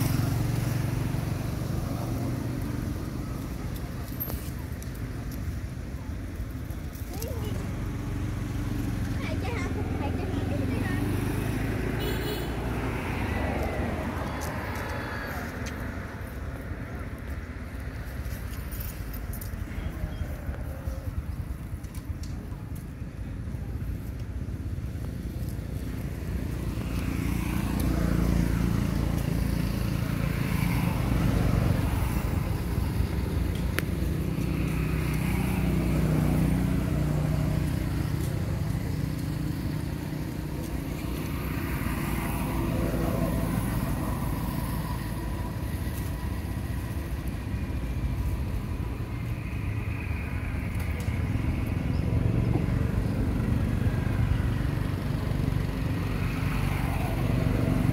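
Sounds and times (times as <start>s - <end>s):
road traffic passing: 0.0s - 57.9s.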